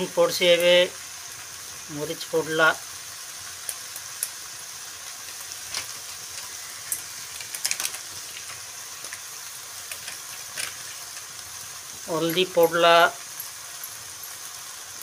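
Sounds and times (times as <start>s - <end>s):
curry sizzling in a wok: 0.0s - 15.0s.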